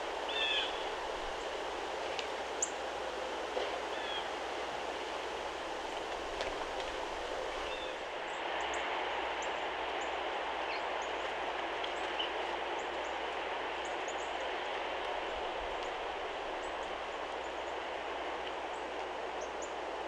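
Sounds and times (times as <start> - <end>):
steady rushing noise: 0.0 - 18.4.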